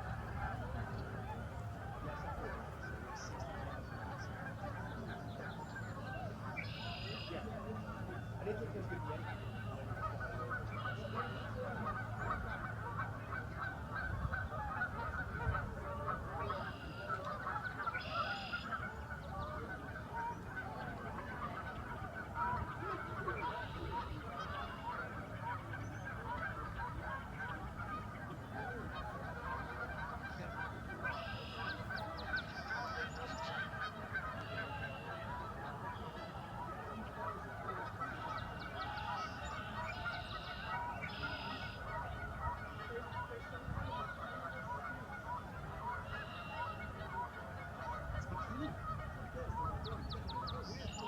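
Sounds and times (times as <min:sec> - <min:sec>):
flock of geese honking: 0:00.0 - 0:51.0
nearer higher goose calls: 0:00.0 - 0:51.0.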